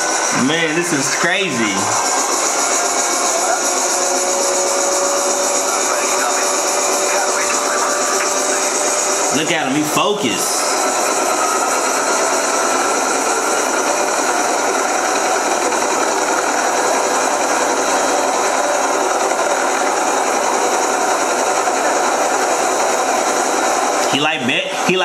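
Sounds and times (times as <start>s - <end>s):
helicopter turbine and rotor: 0.0s - 25.0s.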